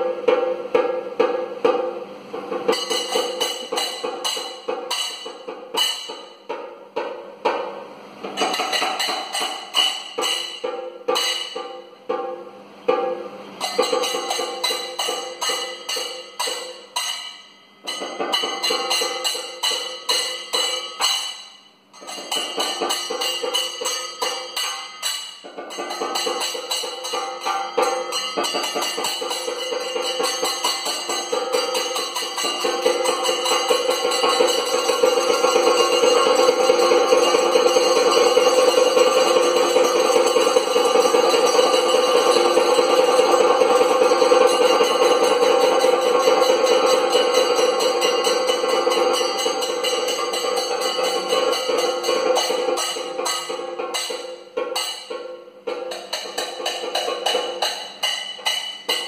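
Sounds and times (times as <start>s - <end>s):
fast drum strokes: 0.0s - 59.0s
ringing metallic percussion: 0.0s - 59.0s.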